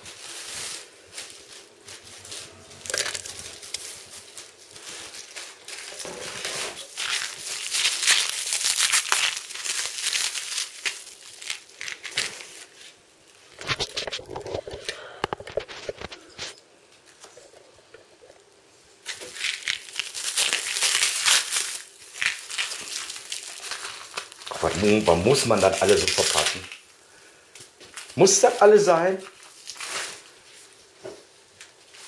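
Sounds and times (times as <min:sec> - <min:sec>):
plastic film crinkling: 0:00.0 - 0:17.5, 0:18.2 - 0:32.0.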